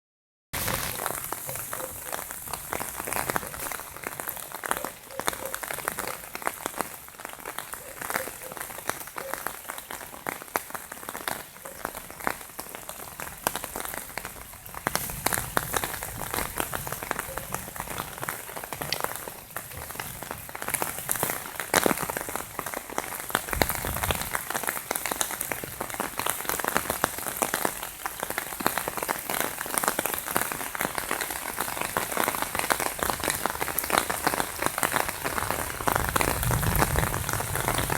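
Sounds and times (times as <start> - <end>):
heavy rain hissing: 0.6 - 8.2, 12.0 - 37.9
raindrops striking close by: 0.6 - 37.9.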